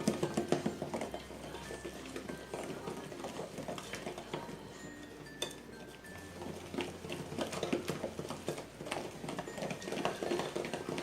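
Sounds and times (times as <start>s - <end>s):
batter stirred in a bowl: 0.0s - 11.0s
utensil scraping a bowl: 0.0s - 11.0s.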